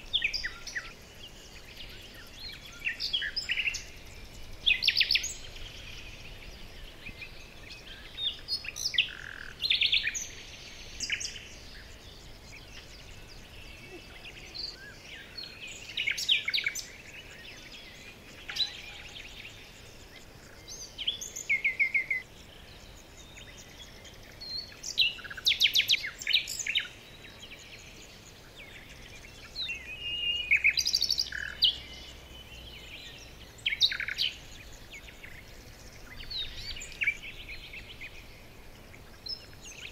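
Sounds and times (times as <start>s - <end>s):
faint background hiss: 0.0s - 39.9s
small birds chirping: 0.0s - 39.9s.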